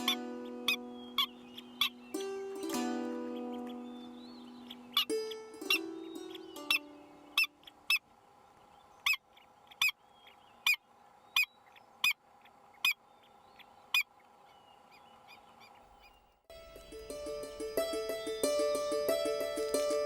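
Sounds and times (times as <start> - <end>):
faint bird chirps: 0.0 - 2.4, 3.2 - 19.9.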